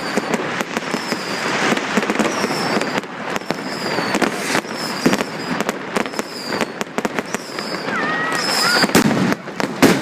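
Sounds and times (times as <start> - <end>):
fireworks bangs and crackling: 0.0 - 10.0
high falling firework whistle: 0.0 - 10.0.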